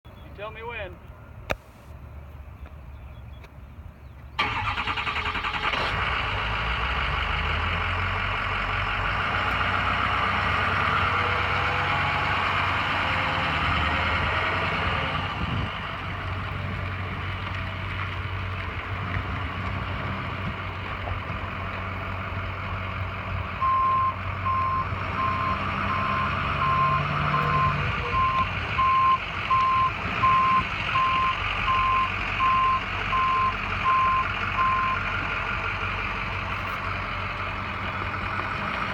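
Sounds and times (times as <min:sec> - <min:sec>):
truck engine idling: 0:04.3 - 0:38.9.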